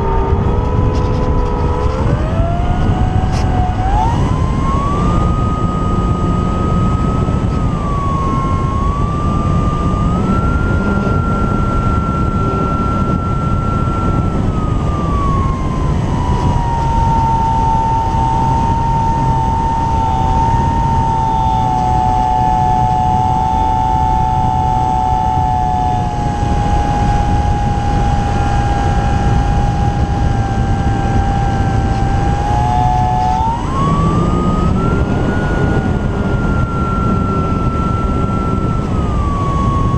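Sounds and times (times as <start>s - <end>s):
electric propeller motor whine: 0.0s - 39.9s
wind rush: 0.0s - 39.9s.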